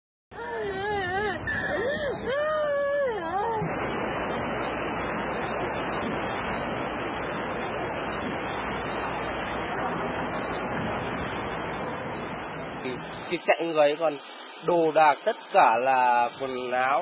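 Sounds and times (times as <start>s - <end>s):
floodwater rushing: 0.4s - 17.0s.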